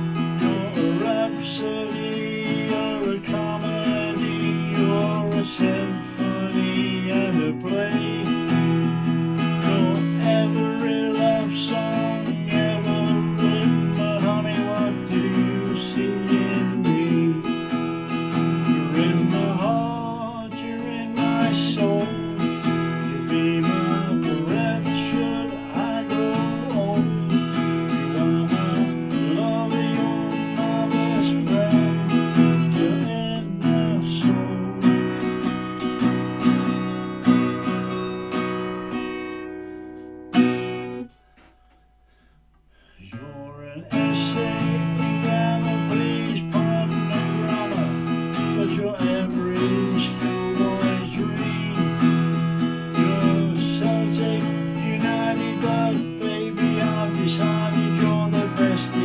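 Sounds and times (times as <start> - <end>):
man singing: 0.0 - 37.9, 42.9 - 59.0
acoustic guitar strumming: 0.0 - 59.0.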